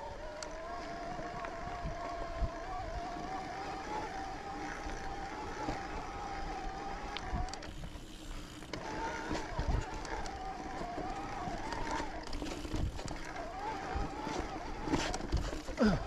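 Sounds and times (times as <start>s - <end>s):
wind rumble on microphone: 0.0s - 8.0s, 8.7s - 16.0s
bicycle freehub buzzing: 0.0s - 16.0s
low thuds from trail: 0.1s - 16.0s.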